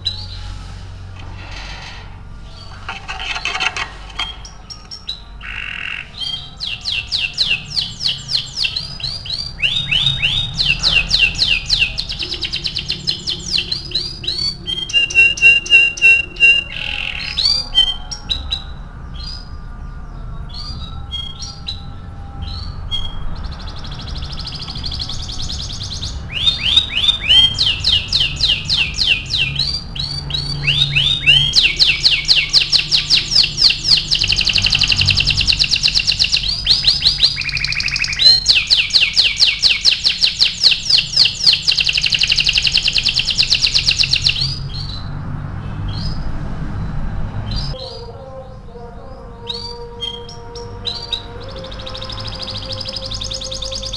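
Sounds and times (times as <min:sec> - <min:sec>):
canary singing: 0:00.0 - 0:53.9.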